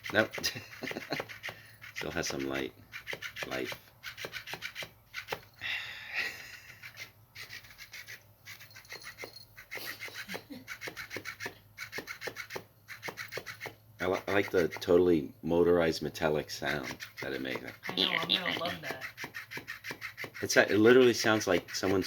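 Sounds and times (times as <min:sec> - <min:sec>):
motorized toy rasping rhythm: 0:00.0 - 0:22.0.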